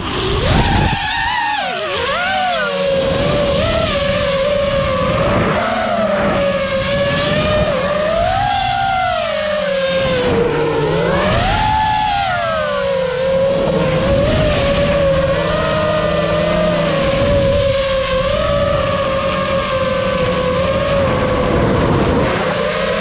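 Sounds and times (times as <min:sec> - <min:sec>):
drone motors whining: 0:00.0 - 0:23.0
propeller wash and wind noise: 0:00.0 - 0:23.0.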